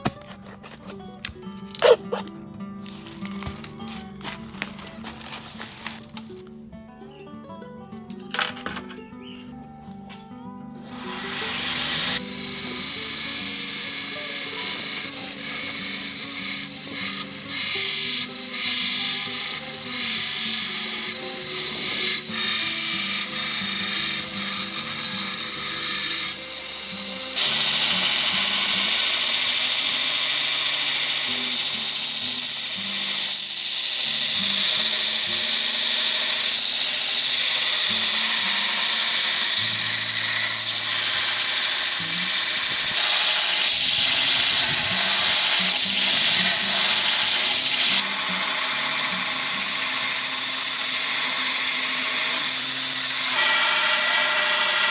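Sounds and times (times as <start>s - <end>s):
background music: 0.0s - 53.5s
power tool running: 10.6s - 54.9s.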